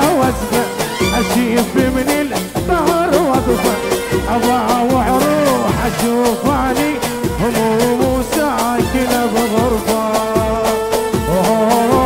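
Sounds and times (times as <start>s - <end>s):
keyboard: 0.0s - 12.0s
live band playing a song: 0.0s - 12.0s
steady drum beat: 0.0s - 12.0s.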